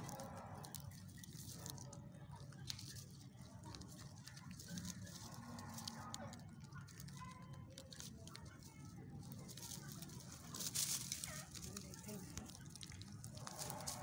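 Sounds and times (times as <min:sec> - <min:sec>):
rabbits nibbling: 0:00.0 - 0:14.0
straw rustling: 0:00.0 - 0:14.0.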